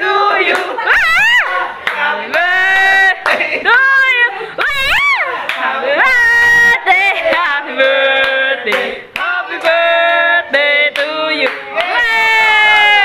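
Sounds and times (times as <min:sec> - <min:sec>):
group singing a birthday song: 0:00.0 - 0:12.4.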